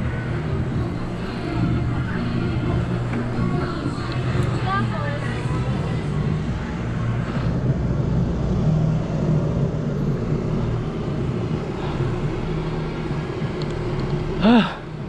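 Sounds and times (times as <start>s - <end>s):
loud sound rising in pitch: 0.0s - 13.6s
motor vehicle engine running: 0.0s - 15.0s
road and wind noise: 0.0s - 15.0s.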